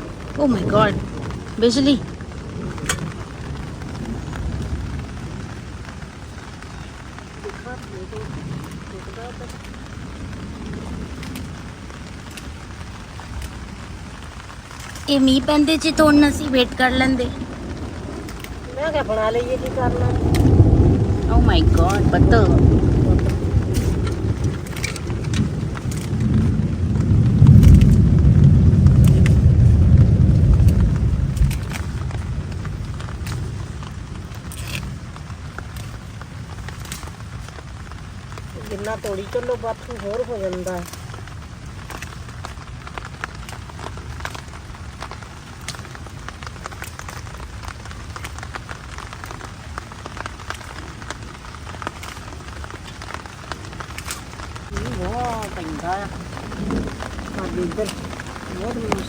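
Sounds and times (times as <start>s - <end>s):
raindrops tapping: 0.0s - 59.0s
rolling thunder: 0.0s - 59.0s.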